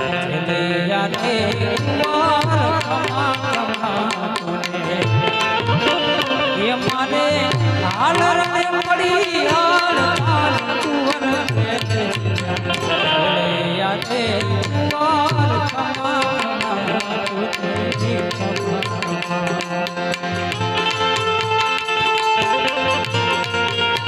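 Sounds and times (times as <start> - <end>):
tabla rhythm: 0.0 - 24.0
ornamented melodic line: 4.6 - 24.0.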